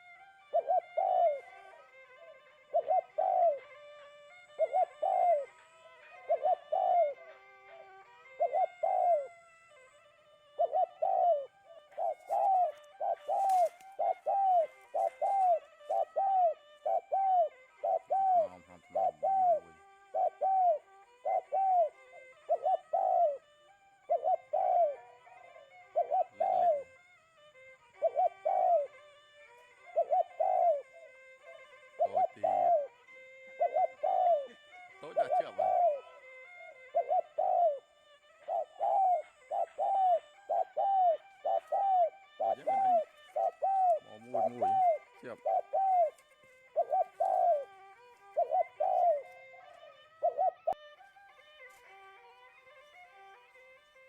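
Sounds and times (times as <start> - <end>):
bird hooting call: 0.0 - 54.0.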